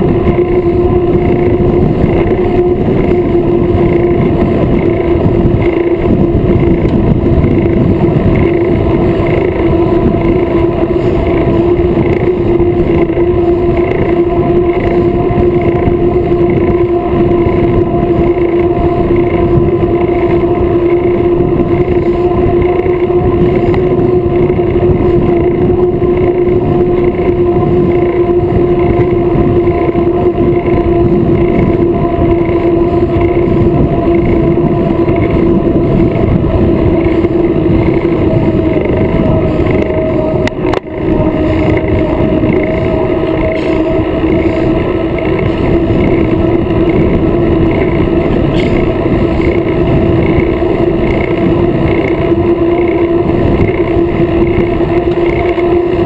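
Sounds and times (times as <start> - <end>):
constant hum: 0.0 - 56.0
wind rushing over microphone: 0.0 - 56.0.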